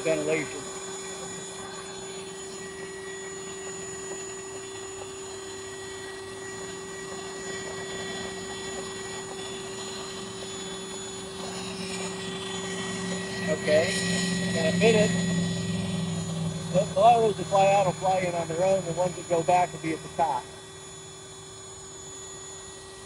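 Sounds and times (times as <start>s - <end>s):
shop vacuum motor whine: 0.0s - 23.0s.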